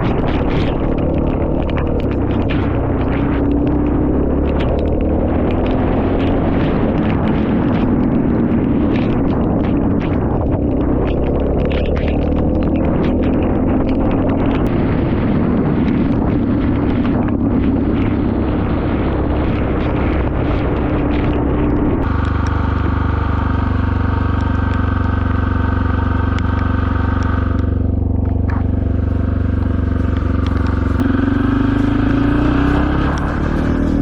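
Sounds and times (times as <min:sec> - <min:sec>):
motorcycle engine running: 0:00.0 - 0:34.0
wind noise: 0:00.0 - 0:34.0.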